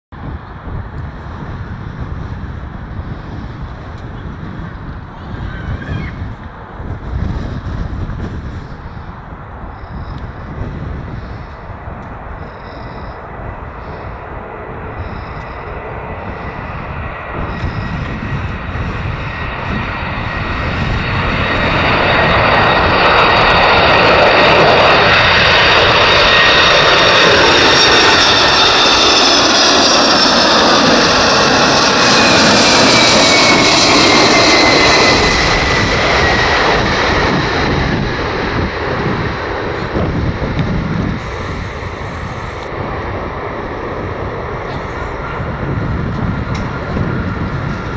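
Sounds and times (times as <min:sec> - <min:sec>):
jet engines passing low: 0:00.1 - 0:47.9.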